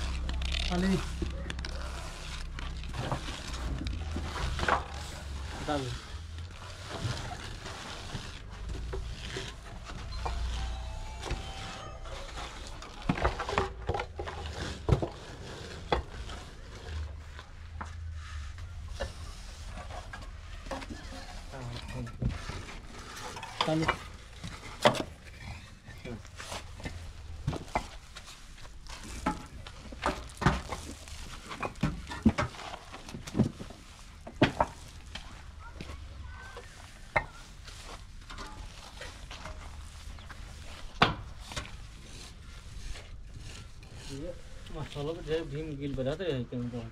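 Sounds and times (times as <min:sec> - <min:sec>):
concrete blocks knocking and scraping: 0:00.0 - 0:46.9.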